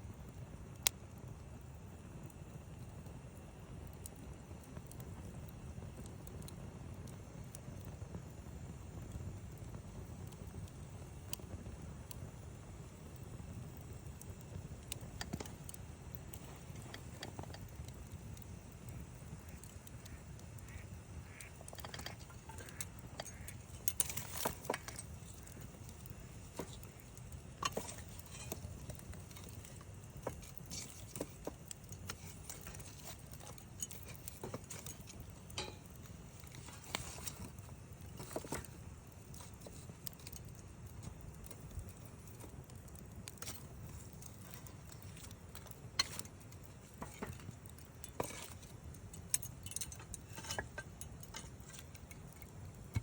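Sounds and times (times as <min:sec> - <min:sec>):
campfire crackling and popping: 0:00.0 - 0:53.0
low steady fire rumble: 0:00.0 - 0:53.0.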